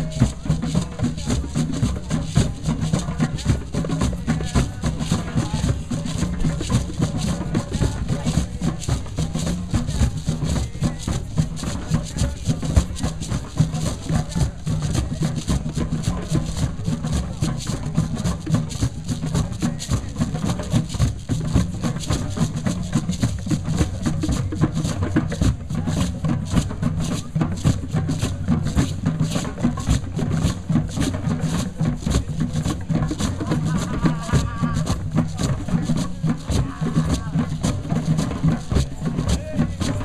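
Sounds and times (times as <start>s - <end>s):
hand drums playing fast rhythm: 0.0s - 40.0s.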